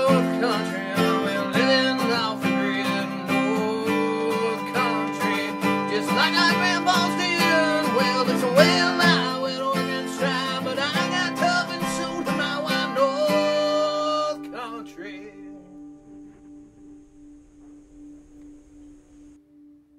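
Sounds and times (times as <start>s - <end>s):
acoustic guitar song with singing: 0.0s - 17.0s.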